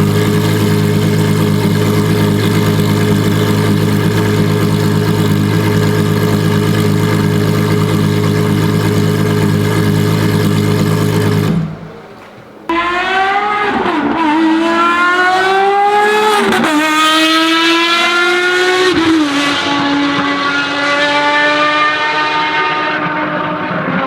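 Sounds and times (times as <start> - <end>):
car engine accelerating hard: 0.0 - 12.0, 12.7 - 24.0.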